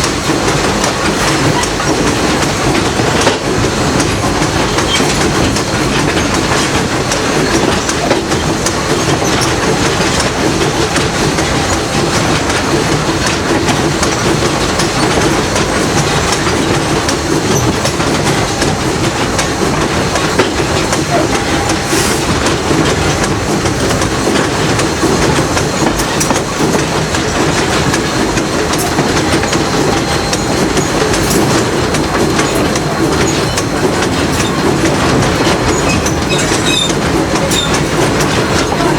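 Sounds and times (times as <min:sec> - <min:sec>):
train wheels rumbling on rail: 0:00.0 - 0:38.9
wheels clacking over rail joints: 0:00.0 - 0:38.9.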